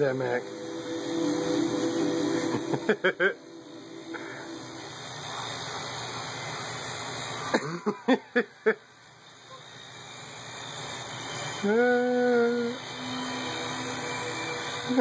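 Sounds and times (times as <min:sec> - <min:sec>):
electric toothbrush buzzing: 0:00.0 - 0:15.0.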